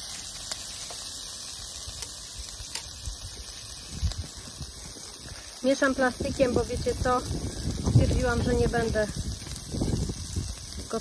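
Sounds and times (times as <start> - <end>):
sausage sizzling in a frying pan: 0.0 - 11.0.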